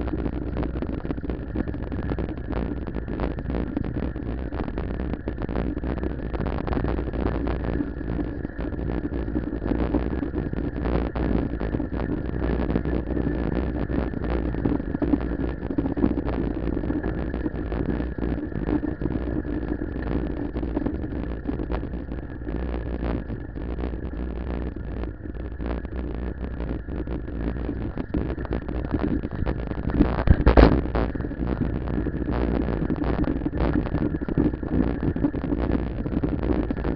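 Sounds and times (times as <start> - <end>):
faint high whine: 0.0 - 36.9
wind on microphone: 0.0 - 36.9.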